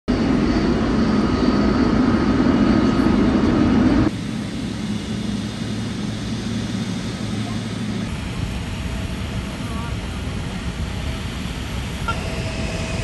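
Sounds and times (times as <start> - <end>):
jet engine rumble: 0.1 - 13.0.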